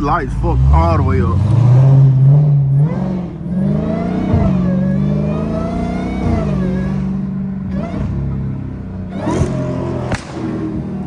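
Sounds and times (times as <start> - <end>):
car engine running loud: 0.0 - 11.0.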